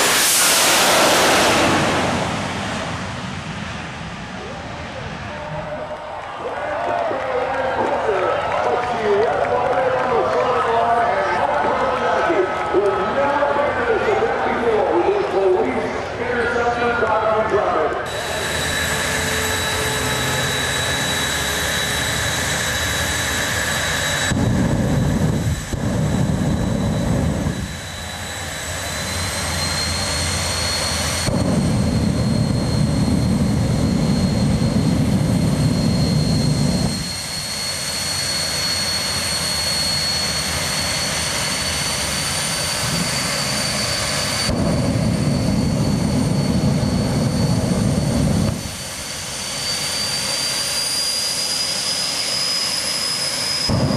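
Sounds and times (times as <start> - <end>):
jet turbine engine whine and roar: 0.0 - 53.9.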